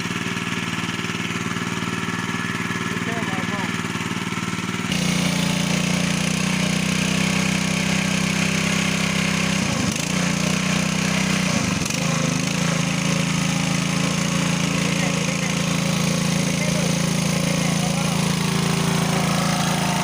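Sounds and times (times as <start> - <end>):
petrol engine driving water pump: 0.0 - 20.0.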